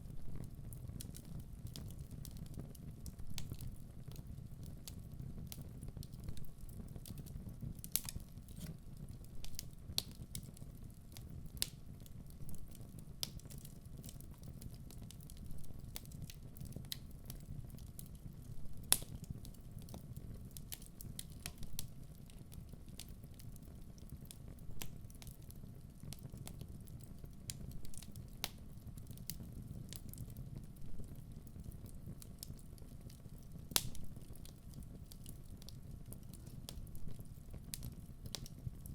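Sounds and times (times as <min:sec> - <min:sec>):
burning logs popping and crackling: 0:00.0 - 0:38.9.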